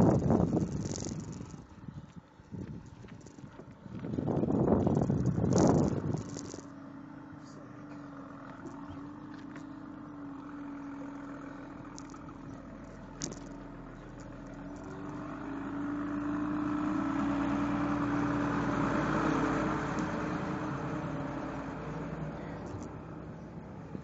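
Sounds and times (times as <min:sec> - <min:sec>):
lorry engine running: 0:00.0 - 0:24.0.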